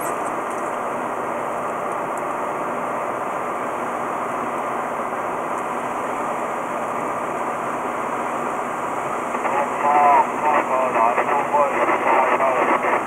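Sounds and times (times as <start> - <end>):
road and engine noise in car cabin: 0.0 - 13.0.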